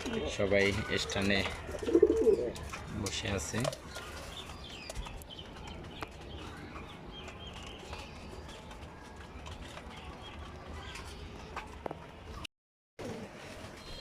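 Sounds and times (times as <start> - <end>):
light clicks from birds: 0.0 - 12.1
birds chirping: 0.0 - 12.4.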